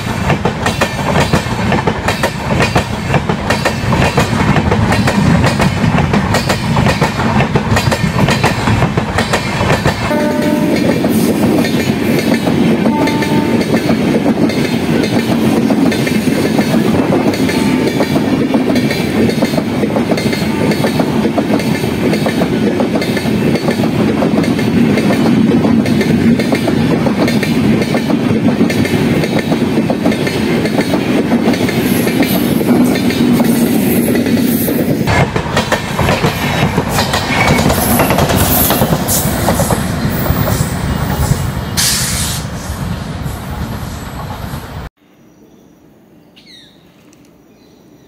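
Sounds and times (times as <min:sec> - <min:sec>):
train wheels clattering on rails: 0:00.0 - 0:42.4
electric locomotive passing: 0:00.0 - 0:44.9
train running on line: 0:00.0 - 0:44.9.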